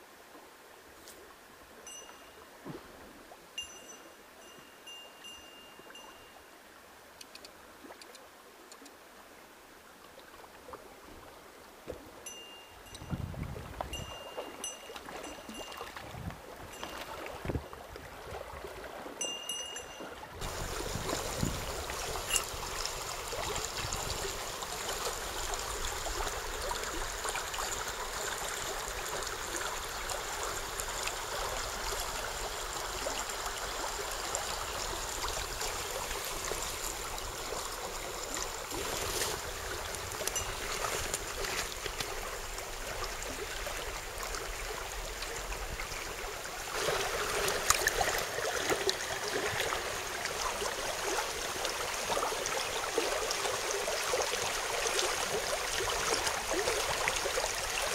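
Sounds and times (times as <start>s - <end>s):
stream rushing over rocks: 11.4s - 57.9s.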